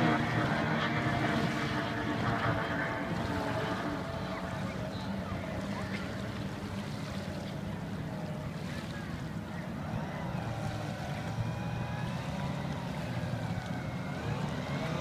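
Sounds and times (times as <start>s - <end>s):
outboard engines whining: 0.0s - 15.0s.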